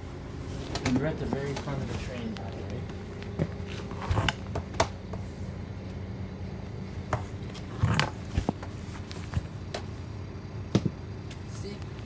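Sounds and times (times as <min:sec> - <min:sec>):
railcar engine hum: 0:00.0 - 0:12.0.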